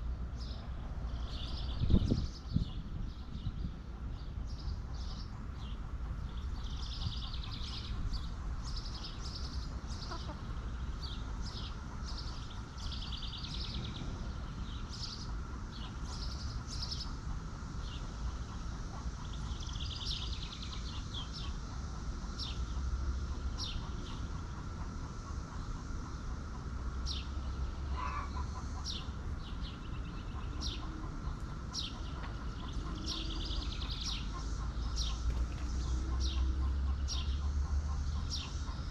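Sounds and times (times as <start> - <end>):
chickens chirping and peeping: 1.3 - 17.4, 18.0 - 38.9.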